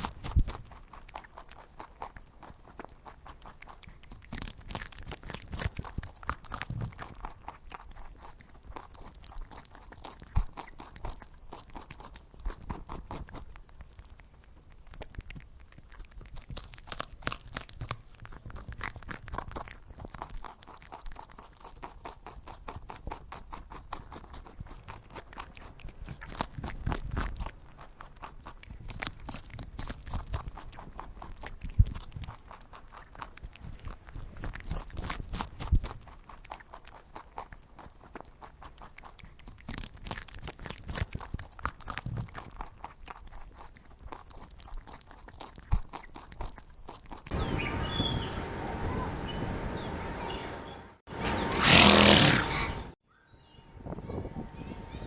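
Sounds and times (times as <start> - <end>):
animal chewing feed: 0.0 - 53.0.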